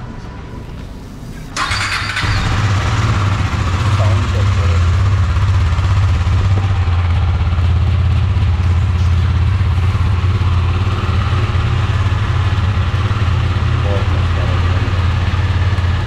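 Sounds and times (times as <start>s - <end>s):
motorcycle engine idling: 1.6s - 16.0s.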